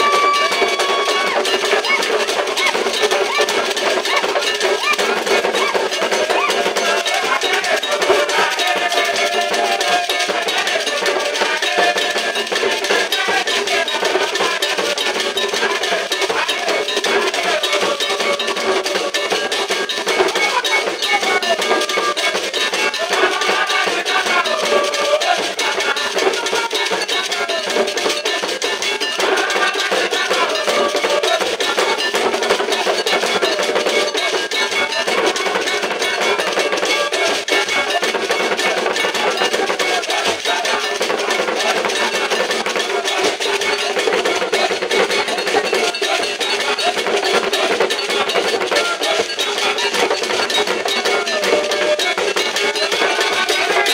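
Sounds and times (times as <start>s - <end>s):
hand drums: 0.0s - 53.9s
repeating bell pattern: 0.0s - 53.9s.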